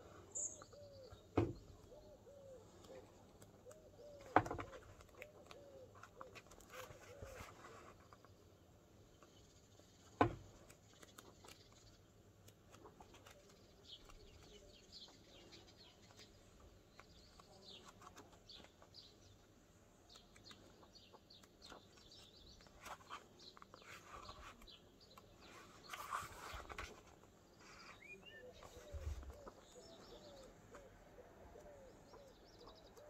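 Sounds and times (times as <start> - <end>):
faint bird chirps: 0.0 - 8.5, 13.0 - 33.0
book pages rustling: 2.8 - 8.4, 9.2 - 19.4, 20.1 - 31.0.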